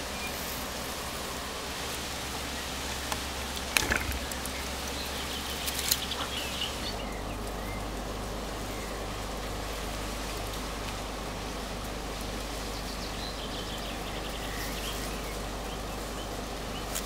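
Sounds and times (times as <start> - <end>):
riverside background hiss: 0.0 - 17.0.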